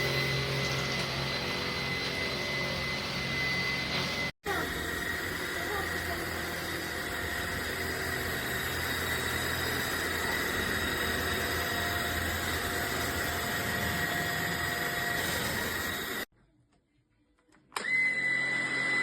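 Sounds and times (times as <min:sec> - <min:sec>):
vacuum cleaner running: 0:00.0 - 0:16.3, 0:17.8 - 0:19.0.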